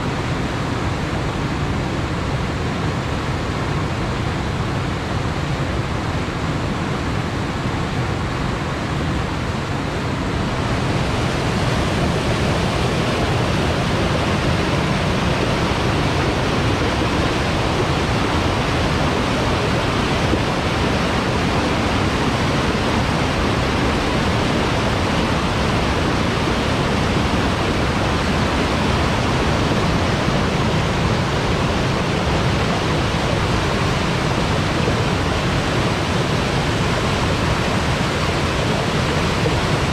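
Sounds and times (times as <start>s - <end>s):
river water pouring over weir: 0.0s - 39.9s.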